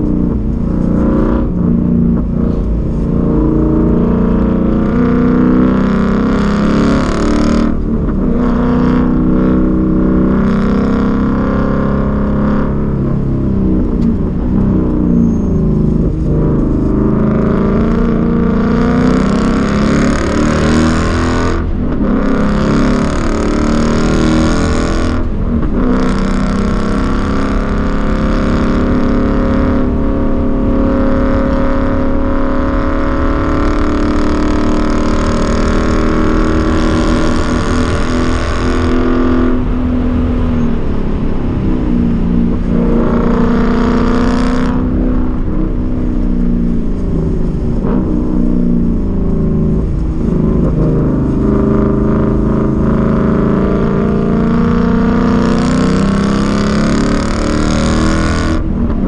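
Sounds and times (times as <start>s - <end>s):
car engine revving under acceleration: 0.0s - 59.0s.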